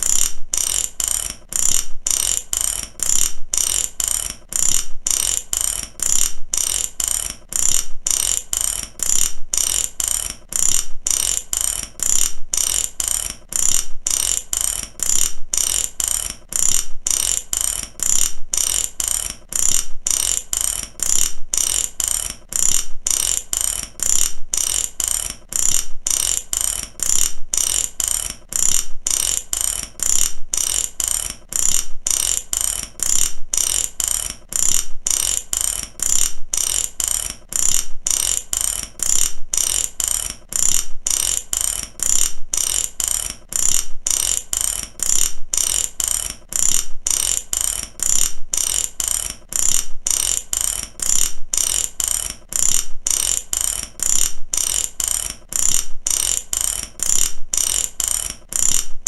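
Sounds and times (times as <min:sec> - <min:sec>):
mechanical ratchet clicking: 0:00.0 - 0:59.0.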